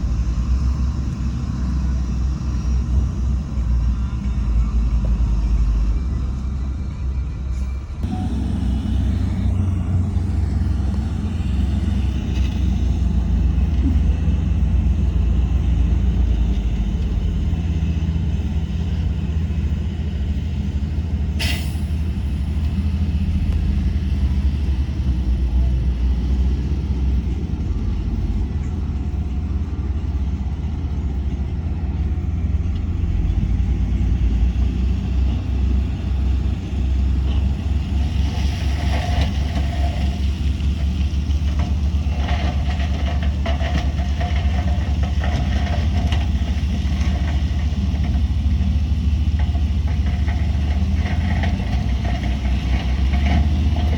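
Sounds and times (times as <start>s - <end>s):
diesel machinery rumbling: 0.0s - 53.9s.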